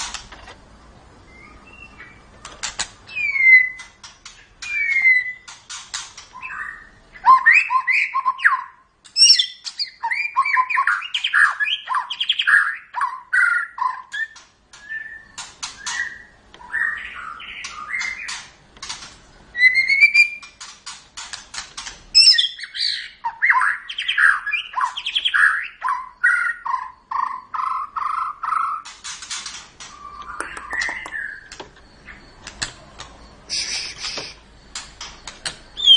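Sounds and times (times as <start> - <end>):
bird singing varied song: 0.8 - 35.9.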